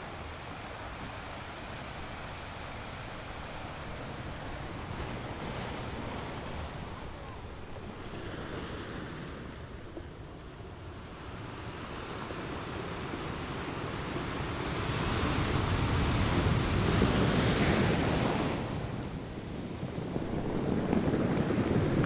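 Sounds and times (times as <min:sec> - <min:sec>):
sea waves rushing: 0:00.0 - 0:22.0.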